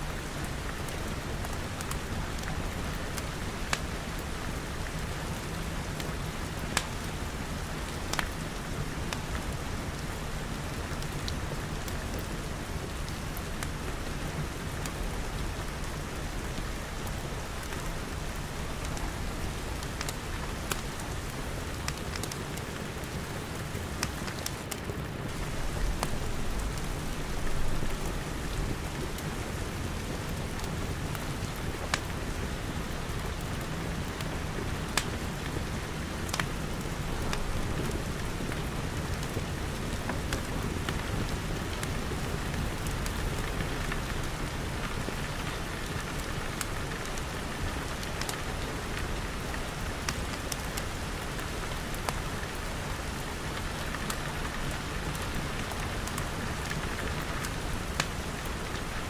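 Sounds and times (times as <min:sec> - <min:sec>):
rain pattering on glass: 0:00.0 - 0:59.0
wood fire crackling: 0:00.0 - 0:59.0.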